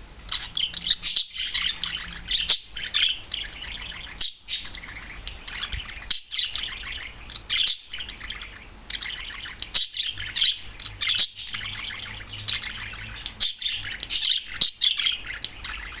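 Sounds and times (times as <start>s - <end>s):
budgerigar warbling and chirping: 0.3s - 16.0s.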